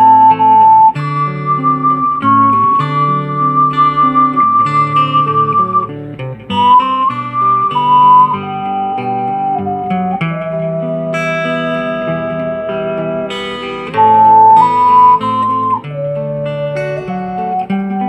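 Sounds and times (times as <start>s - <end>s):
acoustic guitar: 0.0s - 18.0s
ocarina melody: 0.0s - 18.0s.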